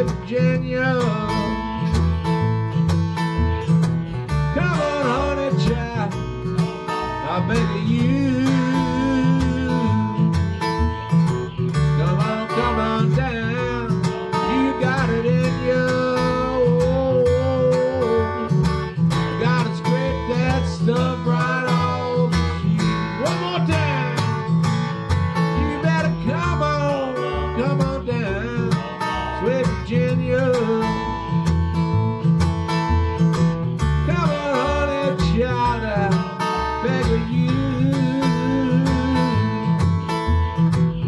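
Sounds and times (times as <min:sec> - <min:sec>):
acoustic guitar strumming: 0:00.0 - 0:41.0
washtub bass plucking: 0:00.0 - 0:41.0.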